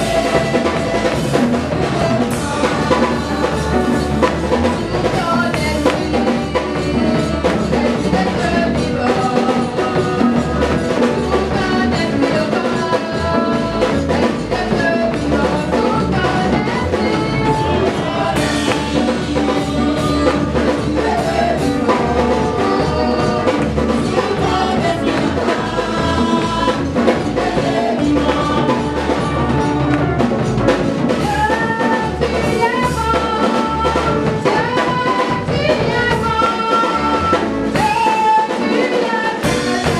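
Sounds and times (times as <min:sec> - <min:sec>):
drum kit beat: 0:00.0 - 0:39.9
people singing gospel: 0:00.0 - 0:39.9.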